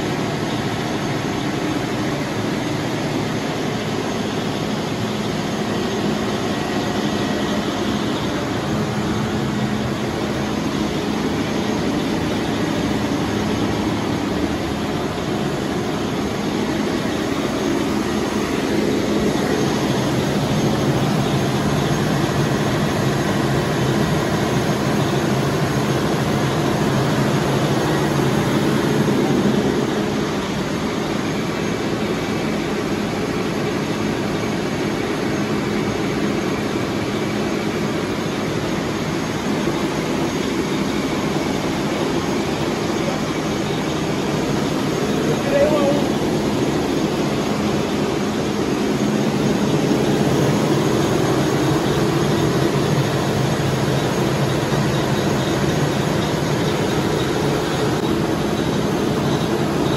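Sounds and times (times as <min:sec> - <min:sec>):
low compressor hum: 0:00.0 - 0:59.9
water chiller machine drone: 0:00.0 - 0:59.9.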